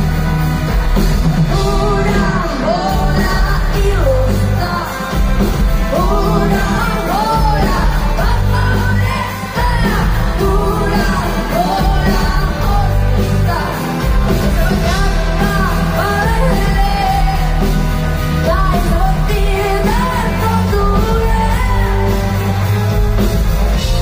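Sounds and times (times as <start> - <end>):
live pop-rock band: 0.0 - 24.0
woman singing lead vocal: 1.4 - 24.0.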